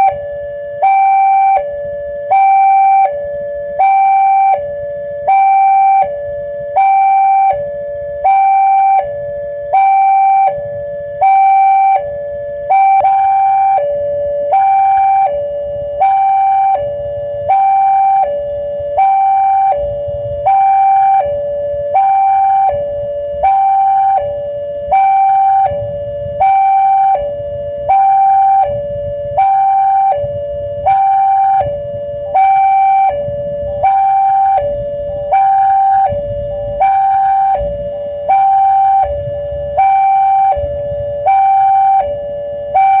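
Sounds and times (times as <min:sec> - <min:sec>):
low rumble: 0:04.5 - 0:43.0.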